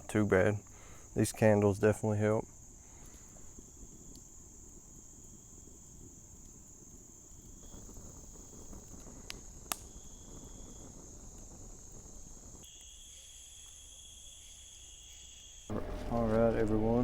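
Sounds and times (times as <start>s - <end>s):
night insects trilling: 0.0s - 17.0s
lower insect trill: 0.1s - 17.0s.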